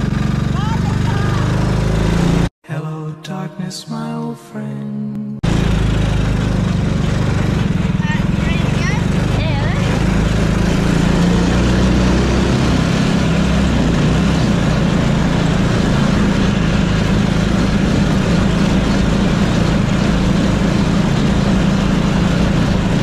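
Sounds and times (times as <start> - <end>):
vehicle engine droning: 0.0 - 2.5, 5.4 - 23.0.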